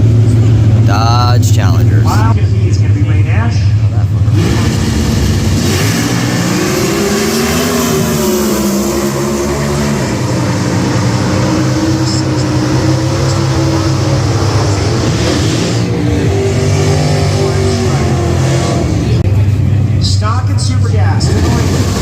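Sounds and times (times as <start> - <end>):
drag racing engines revving: 0.0 - 22.0.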